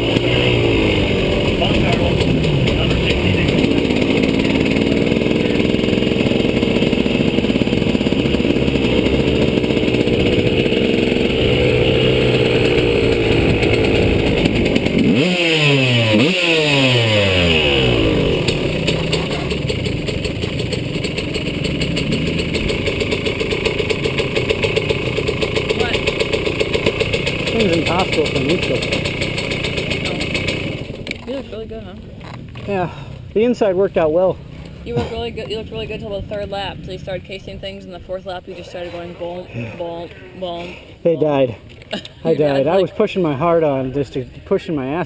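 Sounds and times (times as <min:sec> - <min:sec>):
motocross bike engine revving: 0:00.0 - 0:45.0.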